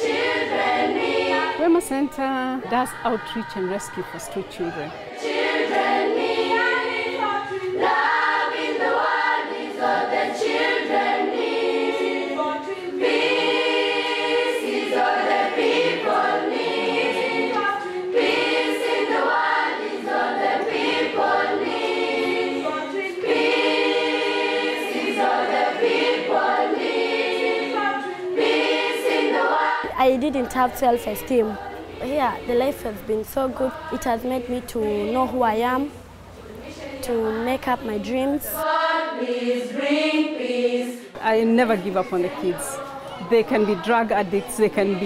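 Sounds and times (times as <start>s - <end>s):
girls' choir singing a cappella: 0.0s - 45.0s.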